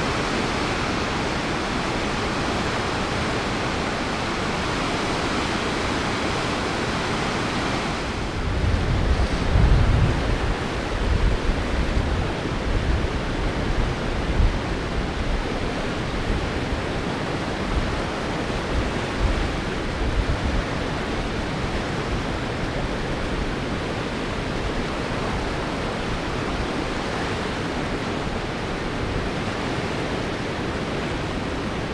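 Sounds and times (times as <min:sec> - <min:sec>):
river rapids roaring: 0:00.0 - 0:31.9
wind buffeting microphone: 0:00.0 - 0:31.9.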